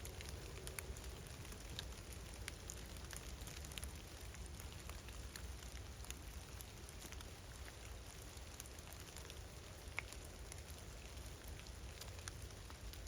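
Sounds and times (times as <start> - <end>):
light rain: 0.0 - 13.0
raindrops ticking: 0.0 - 13.0.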